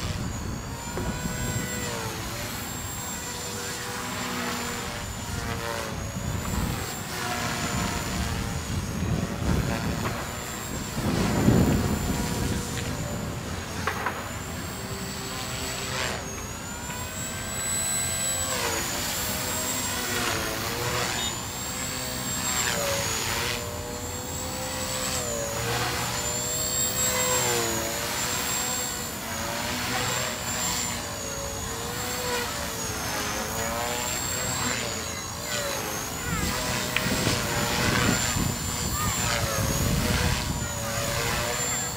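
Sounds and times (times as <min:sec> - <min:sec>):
rc helicopter motor and rotor whine: 0:00.0 - 0:41.9.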